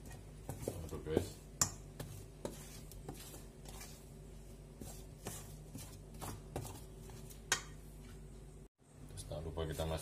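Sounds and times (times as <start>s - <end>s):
hands mixing dough in a bowl: 0.0s - 8.6s, 9.3s - 10.0s.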